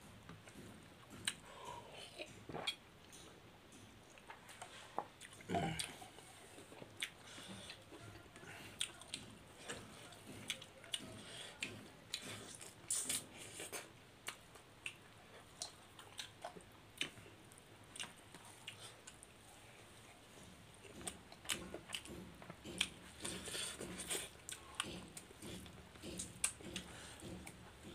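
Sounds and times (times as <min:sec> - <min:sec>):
chewing and lip smacks: 0:02.1 - 0:17.3, 0:17.9 - 0:19.3, 0:20.4 - 0:27.9.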